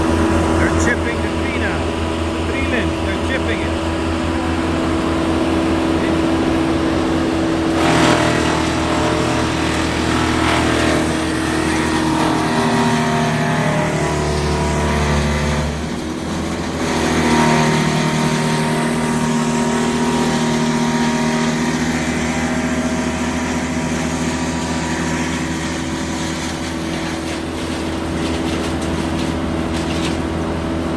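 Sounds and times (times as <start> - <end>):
wood chipper chipping branches: 0.0 - 30.9.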